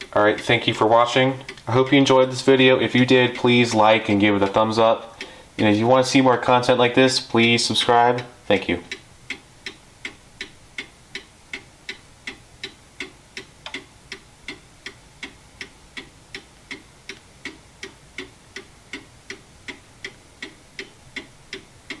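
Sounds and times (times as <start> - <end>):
pendulum clock ticking: 0.0 - 22.0.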